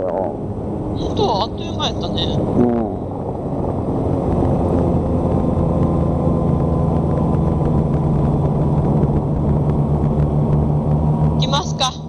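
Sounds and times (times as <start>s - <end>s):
road noise: 0.0s - 12.0s
wind noise: 0.0s - 12.0s
motorcycle engine running: 1.0s - 12.0s.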